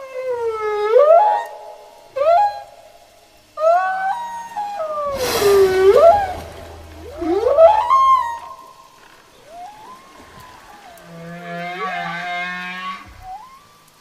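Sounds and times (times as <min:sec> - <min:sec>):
whale song underwater: 0:00.0 - 0:03.0, 0:03.6 - 0:14.0.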